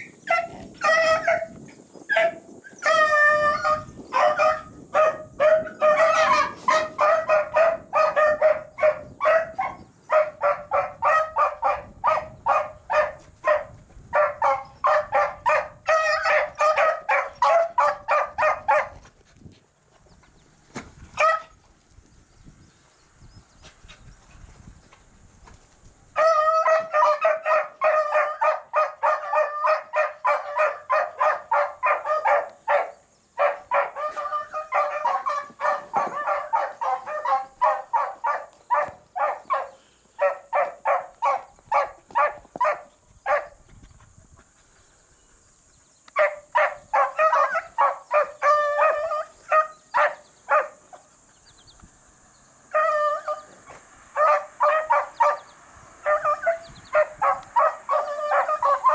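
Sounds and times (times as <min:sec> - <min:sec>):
beagles baying: 0:00.0 - 0:19.0, 0:26.2 - 0:43.6, 0:46.2 - 0:51.0, 0:52.7 - 0:58.9.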